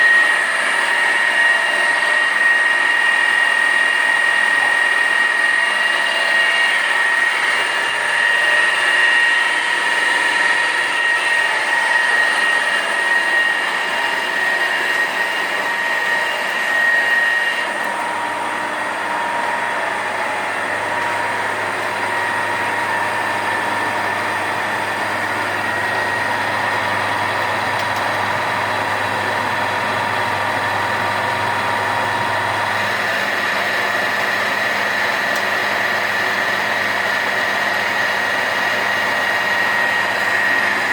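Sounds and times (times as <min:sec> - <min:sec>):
lathe running with whine: 0:00.0 - 0:40.9.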